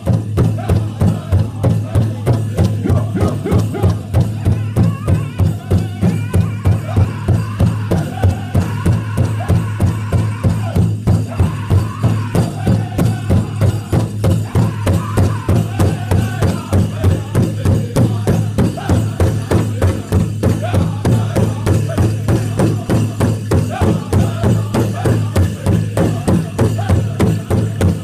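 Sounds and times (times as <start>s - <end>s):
big drum fast beat: 0.0s - 28.0s
people singing: 0.0s - 28.0s.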